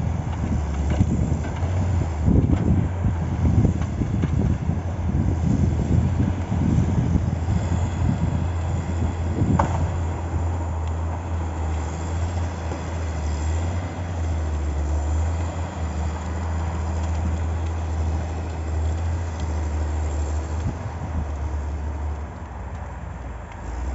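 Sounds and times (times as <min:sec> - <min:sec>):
diesel engine humming: 0:00.0 - 0:23.9.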